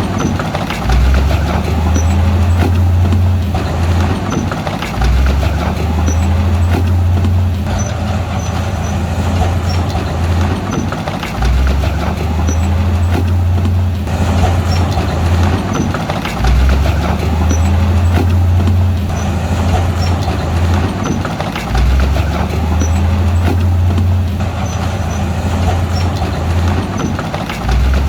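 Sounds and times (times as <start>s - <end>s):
bulldozer diesel engine working hard: 0.0s - 28.0s
clattering tracks: 0.0s - 28.0s.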